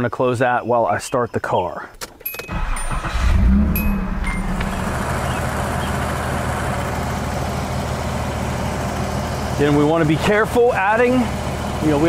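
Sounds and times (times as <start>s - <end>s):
car engine starting and idling: 2.3s - 12.0s.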